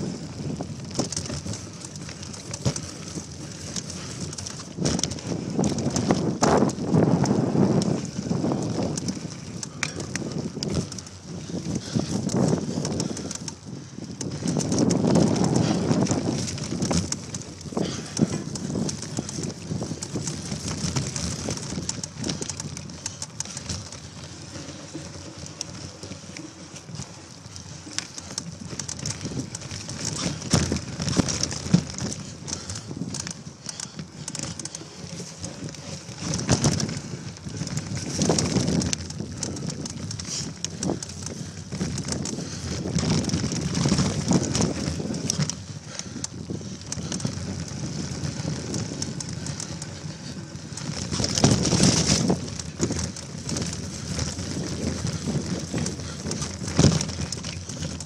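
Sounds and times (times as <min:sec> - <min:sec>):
bicycle frame rattling: 0:00.0 - 0:58.0
bicycle jolts over bumps: 0:00.0 - 0:58.0
tyres crackling over dry leaves: 0:00.0 - 0:58.0.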